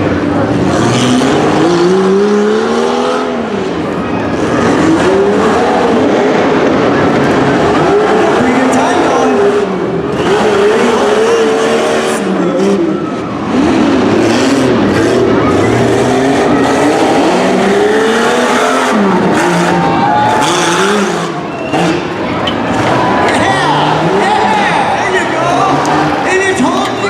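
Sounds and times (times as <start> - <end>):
engine revving hard: 0.0 - 26.3.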